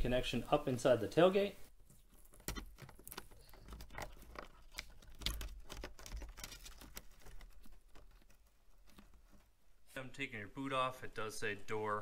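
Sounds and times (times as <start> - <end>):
wires rustling and clicking: 0.0 - 9.9.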